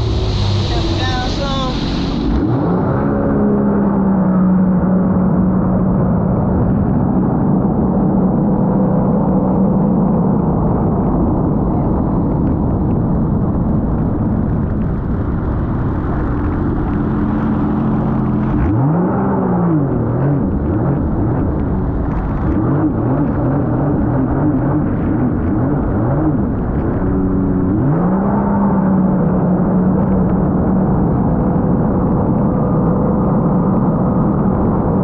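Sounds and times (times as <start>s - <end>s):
personal watercraft engine: 0.0s - 35.0s
water noise: 0.0s - 35.0s
wind: 0.0s - 35.0s.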